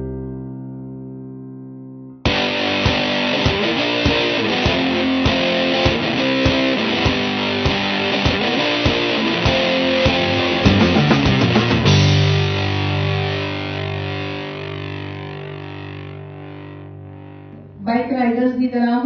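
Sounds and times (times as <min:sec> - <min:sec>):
guitar music over a beat: 0:02.2 - 0:17.9.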